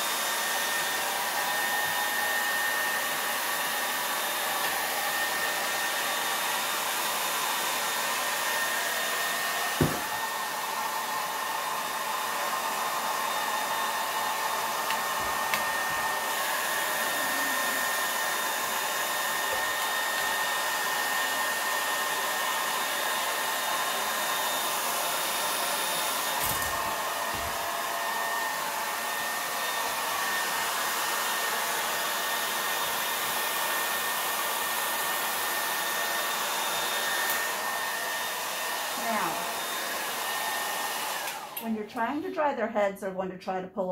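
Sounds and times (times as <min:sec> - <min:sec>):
hair dryer blowing: 0:00.0 - 0:42.7.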